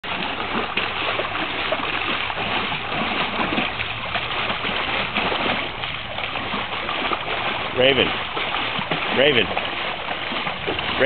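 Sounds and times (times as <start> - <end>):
dog splashing in water: 0.0 - 11.0
rush of moving water: 0.0 - 11.0.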